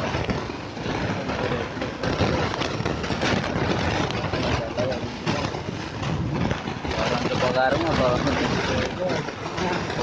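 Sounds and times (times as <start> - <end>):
dense wash of noise: 0.0 - 10.0.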